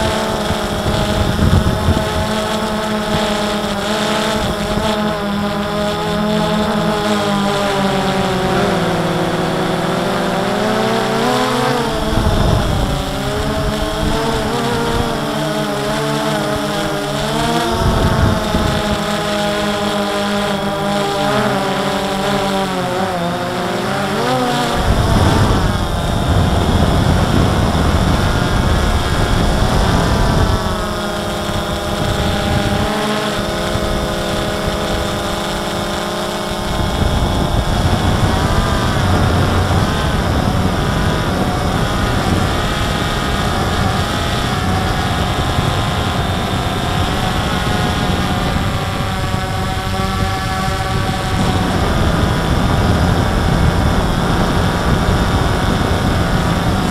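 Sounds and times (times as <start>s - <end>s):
drone motors whining: 0.0s - 56.9s
wind rumble on microphone: 0.0s - 56.9s.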